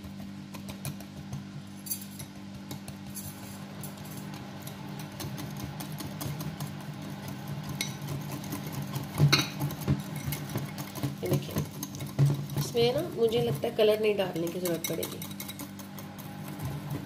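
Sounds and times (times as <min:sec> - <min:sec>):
whisk clinking against bowl: 0:01.9 - 0:17.0.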